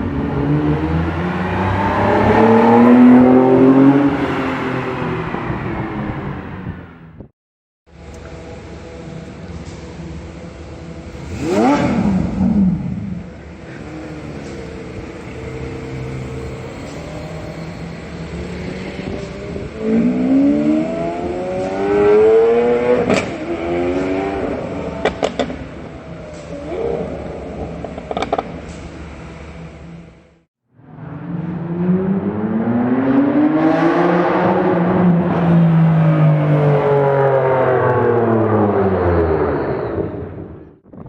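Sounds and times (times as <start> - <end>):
engine revving: 0.0 - 7.3, 9.6 - 30.0, 30.8 - 40.8
sports car passing: 0.0 - 7.3, 8.3 - 30.2, 30.8 - 40.8.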